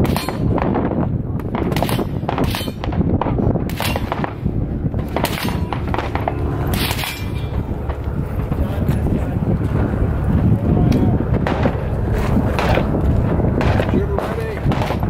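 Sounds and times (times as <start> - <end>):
gunshots: 0.0 - 8.7, 11.3 - 15.0.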